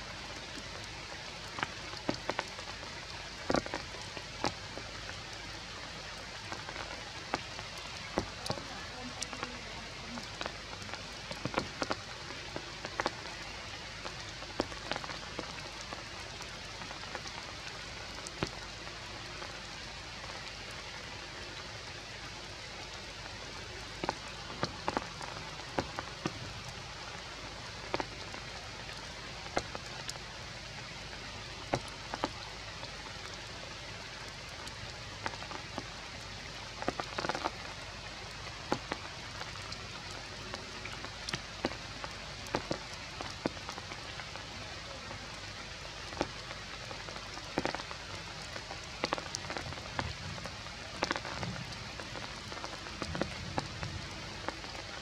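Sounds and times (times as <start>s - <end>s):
louder raindrops striking: 0.0s - 55.0s
rain on leaves: 0.0s - 55.0s.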